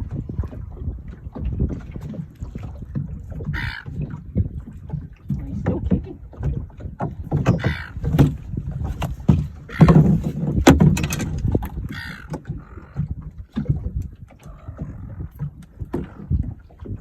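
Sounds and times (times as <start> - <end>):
knocks and clatter in metal boat: 0.0 - 17.0.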